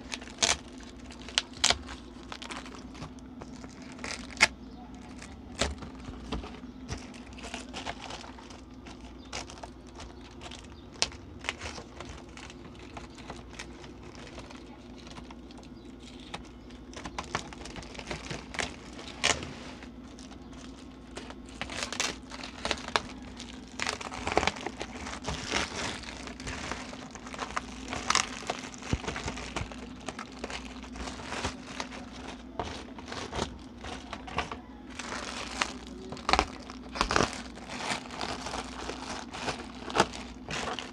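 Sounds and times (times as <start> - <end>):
plastic wrapping crinkling: 0.0 - 40.9.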